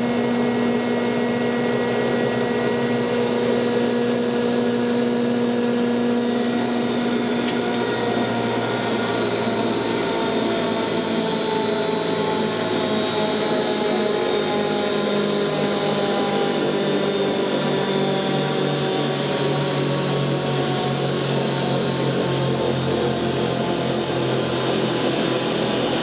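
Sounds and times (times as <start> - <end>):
planer motor humming: 0.0 - 26.0.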